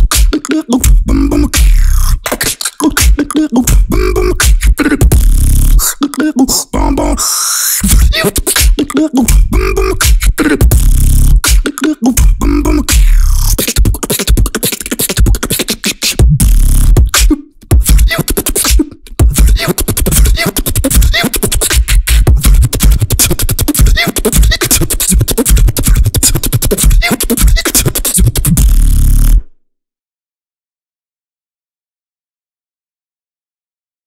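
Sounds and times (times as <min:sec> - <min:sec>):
beatboxing: 0:00.0 - 0:29.5.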